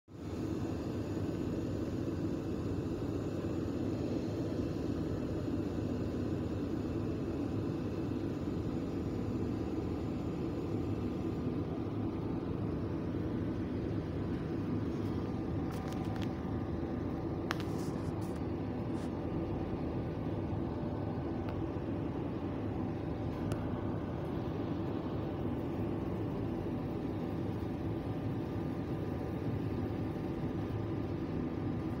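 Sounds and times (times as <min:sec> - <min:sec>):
low mechanical hum: 0:00.1 - 0:32.0.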